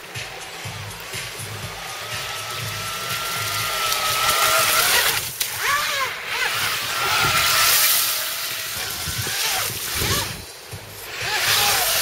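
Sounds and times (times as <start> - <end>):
high motor whine: 0.0 - 12.0.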